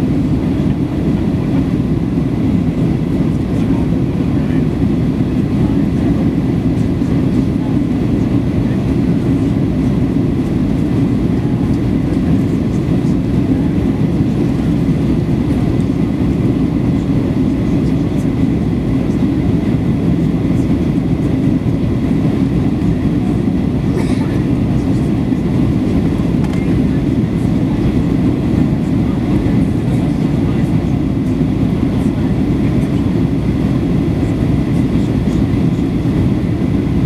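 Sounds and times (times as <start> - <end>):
aircraft cabin engine rumble: 0.0 - 37.0.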